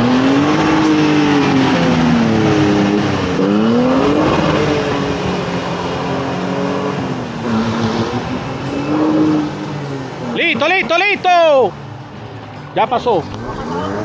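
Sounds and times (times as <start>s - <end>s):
engine revving under load: 0.0s - 12.2s, 13.2s - 14.0s.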